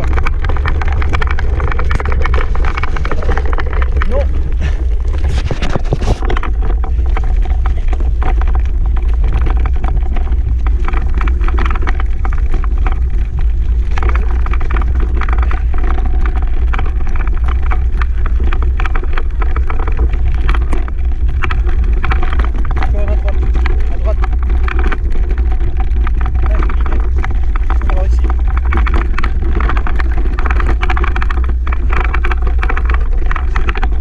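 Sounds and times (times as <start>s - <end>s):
low rumble on microphone: 0.0s - 34.0s
rattling and knocks: 0.0s - 34.0s.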